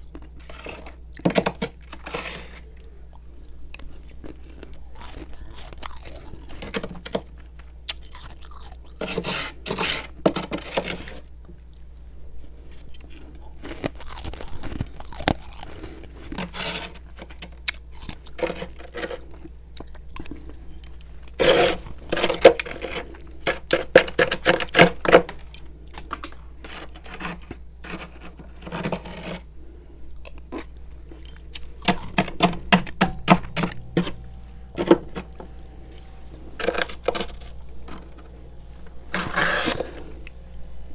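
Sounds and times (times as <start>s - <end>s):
chewing and crunching frost: 0.0s - 34.5s.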